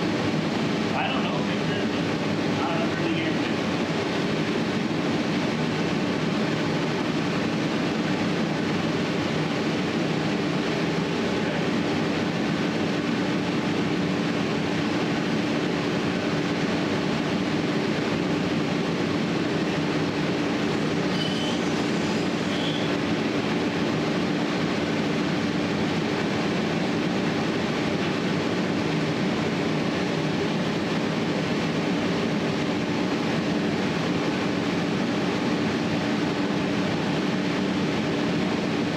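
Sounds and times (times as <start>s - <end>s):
steady low drone: 0.0s - 38.9s.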